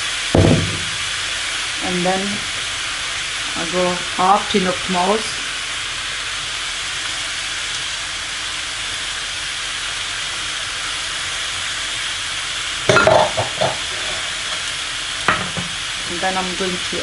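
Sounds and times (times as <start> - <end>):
meat and onions sizzling in pan: 0.0 - 17.0.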